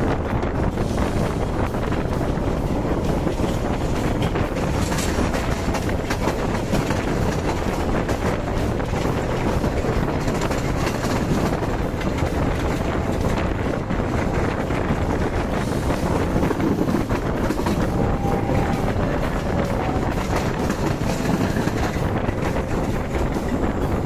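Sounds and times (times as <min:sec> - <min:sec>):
rushing air: 0:00.0 - 0:24.0
train wheels rumbling on rails: 0:00.0 - 0:24.0.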